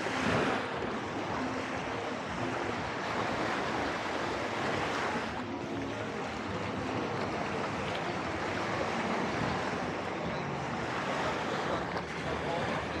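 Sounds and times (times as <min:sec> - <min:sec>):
surf washing onto beach: 0:00.0 - 0:13.0
wind: 0:00.0 - 0:13.0.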